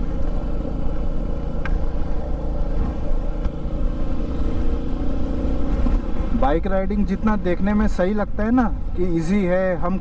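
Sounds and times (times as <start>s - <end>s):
motorcycle engine running: 0.0s - 8.5s
road noise: 0.0s - 10.0s.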